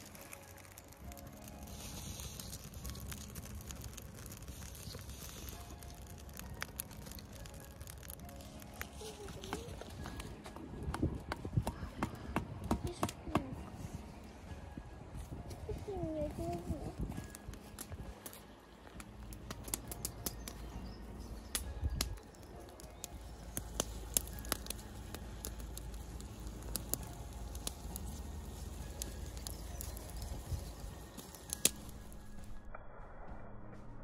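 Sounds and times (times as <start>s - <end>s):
campfire crackling: 0.0s - 32.6s
low outdoor rumble: 0.0s - 34.0s.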